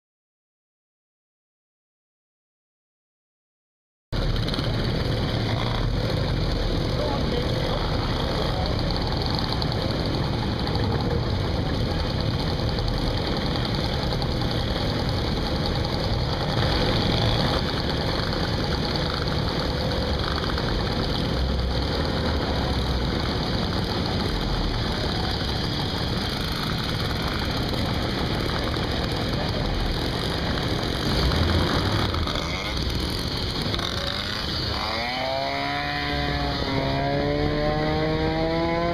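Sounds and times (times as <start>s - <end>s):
moped and motorcycle engines idling: 4.2s - 36.8s.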